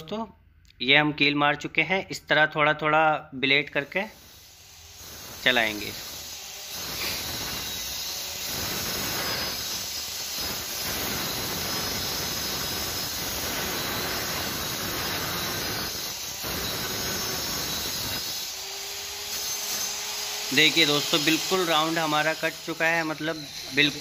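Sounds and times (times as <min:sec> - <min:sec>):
electric cutter whining: 0:03.7 - 0:24.0.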